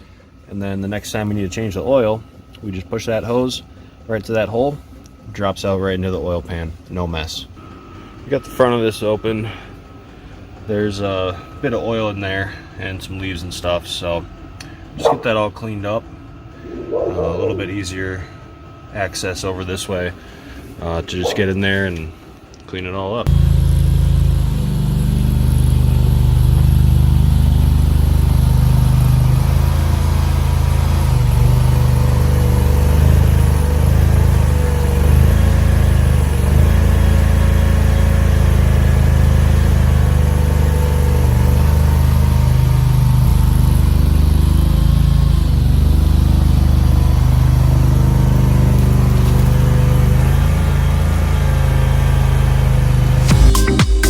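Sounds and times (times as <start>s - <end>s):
engine running steadily: 0.0s - 22.4s, 23.2s - 54.0s.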